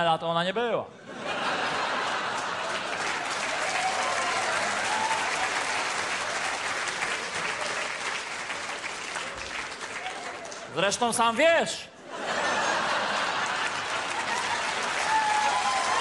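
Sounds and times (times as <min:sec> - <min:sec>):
audience applauding: 0:01.7 - 0:11.0, 0:12.3 - 0:16.0.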